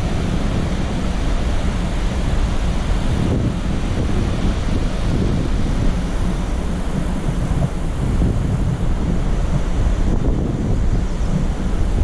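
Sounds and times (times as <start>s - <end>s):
waterfall roaring: 0.0s - 12.0s
white-water river: 0.0s - 12.0s
wind on microphone: 0.0s - 12.0s.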